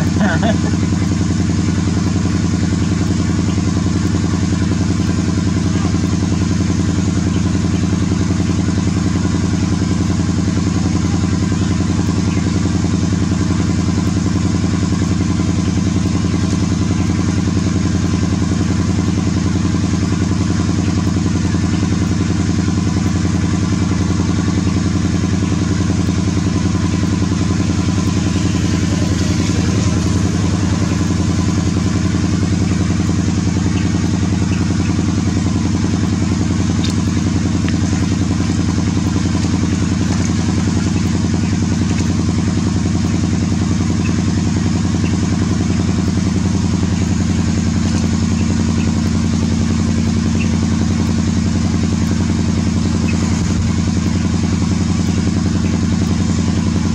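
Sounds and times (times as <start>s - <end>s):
low mechanical hum: 0.0s - 56.9s.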